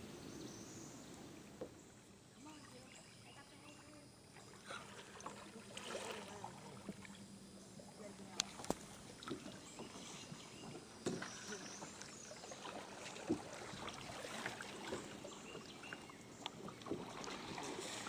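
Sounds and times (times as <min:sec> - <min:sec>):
paddle swishing and dripping water: 0:01.1 - 0:18.0.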